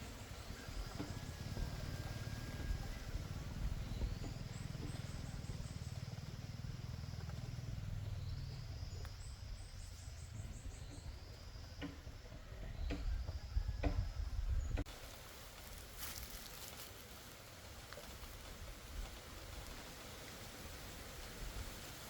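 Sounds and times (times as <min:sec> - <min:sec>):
wind rumble on microphone: 0:00.0 - 0:14.9, 0:18.2 - 0:22.0.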